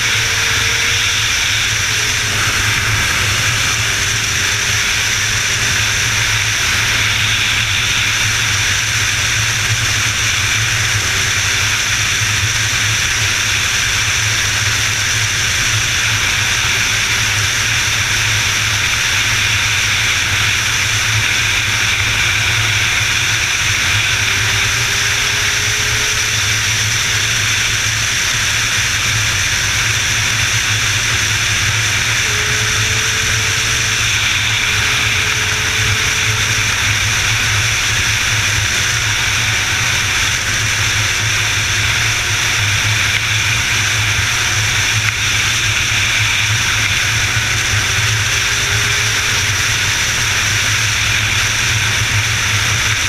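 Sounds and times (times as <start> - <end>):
faint drifting tones: 0.0 - 12.8, 14.8 - 53.0
motorcycle engine hum: 0.0 - 53.0
road noise: 0.0 - 53.0
wind rush: 0.0 - 53.0.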